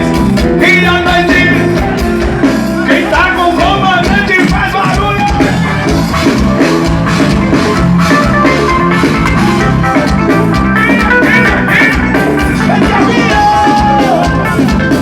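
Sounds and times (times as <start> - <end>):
bass: 0.0 - 15.0
drum beat: 0.0 - 15.0
live band music: 0.0 - 15.0.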